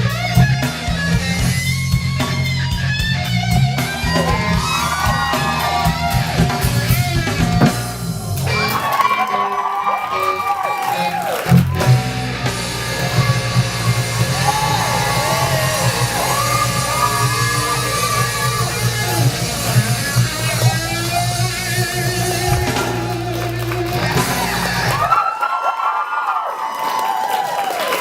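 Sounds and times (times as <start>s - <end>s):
bending lead guitar melody: 0.0s - 25.0s
loud rock music: 0.0s - 25.1s.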